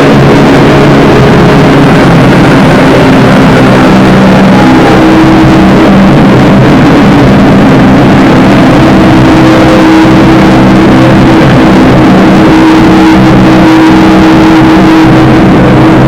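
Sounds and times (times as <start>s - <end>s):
distorted drone noise music: 0.0s - 16.0s.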